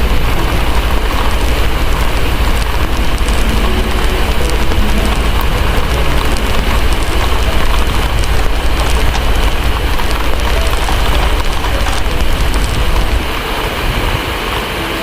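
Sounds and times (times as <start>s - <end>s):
deep low rumble: 0.0s - 13.5s
wood fire crackling: 0.0s - 13.6s
heavy rain falling: 0.0s - 15.0s.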